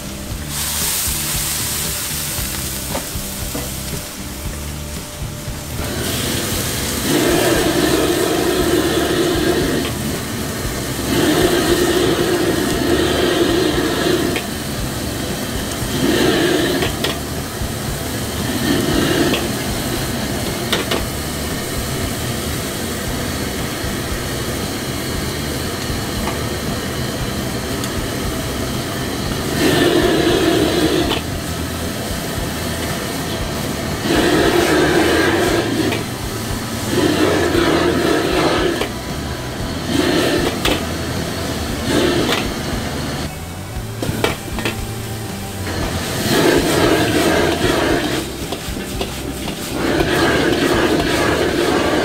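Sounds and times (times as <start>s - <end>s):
food sizzling: 0.0s - 52.0s
wok burner roaring: 0.0s - 52.0s.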